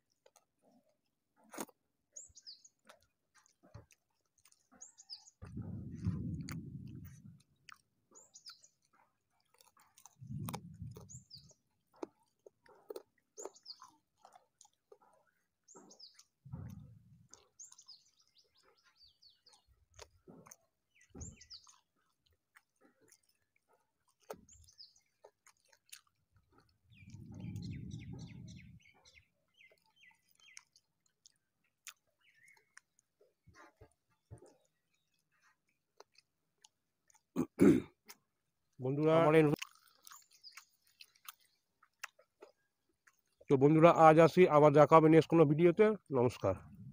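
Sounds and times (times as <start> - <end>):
person chewing food: 0.0 - 38.8, 39.5 - 43.5
small birds chirping: 0.0 - 46.9.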